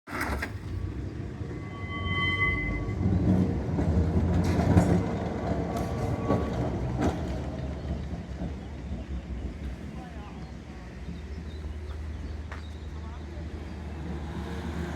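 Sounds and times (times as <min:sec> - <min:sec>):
tram rumbling over rails: 0:00.1 - 0:14.9.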